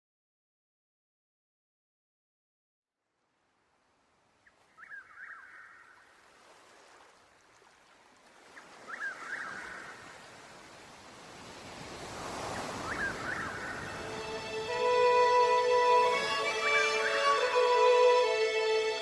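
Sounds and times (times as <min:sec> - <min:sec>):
rushing water: 0:03.6 - 0:19.0.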